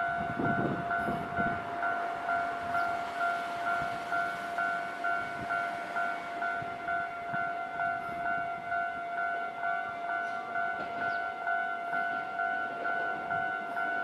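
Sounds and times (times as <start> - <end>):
level crossing warning bell: 0.0 - 14.0.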